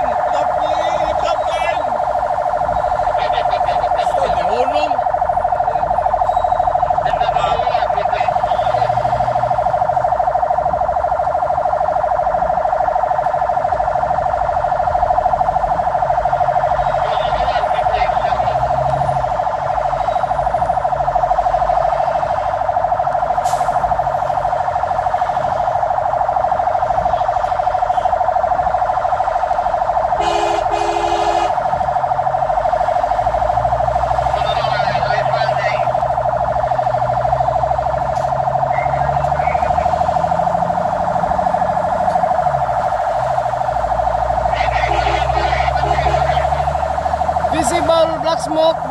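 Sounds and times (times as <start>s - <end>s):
fire engine siren steady tone: 0.0s - 48.9s
truck engine rumbling: 0.0s - 48.9s.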